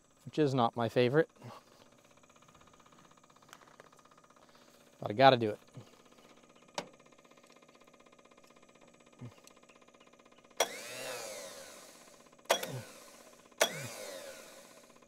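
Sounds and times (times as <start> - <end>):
starter motor whirring: 1.3 - 15.0.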